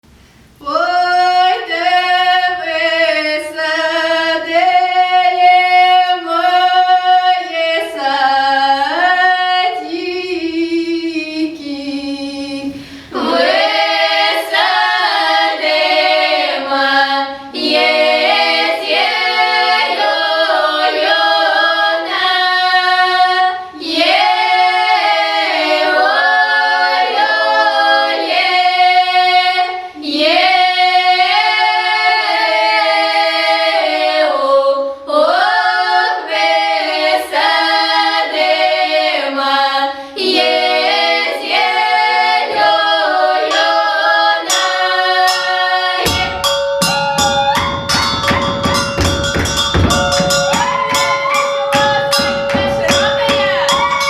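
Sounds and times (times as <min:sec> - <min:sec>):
children's choir singing: 0:00.6 - 0:54.0.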